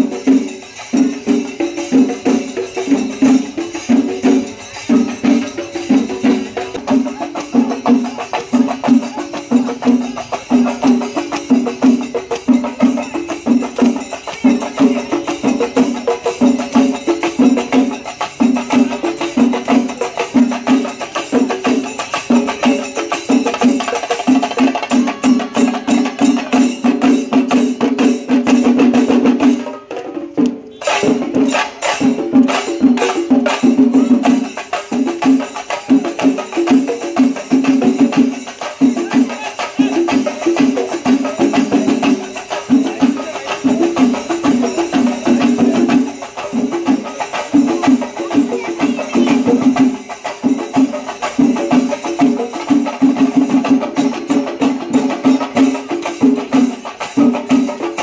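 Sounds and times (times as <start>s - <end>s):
cymbals: 0.0s - 58.0s
fast drum strokes: 0.0s - 58.0s.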